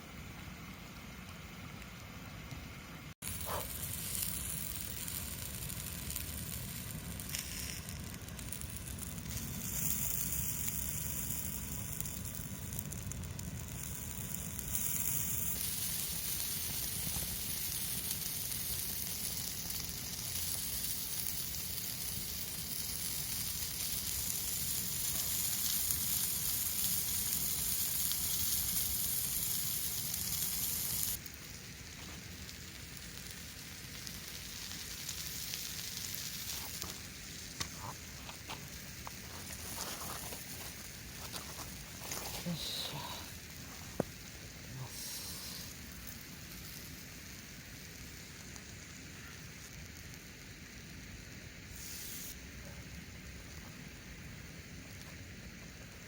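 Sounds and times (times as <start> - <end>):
food sizzling over wood fire: 0.0 - 56.0.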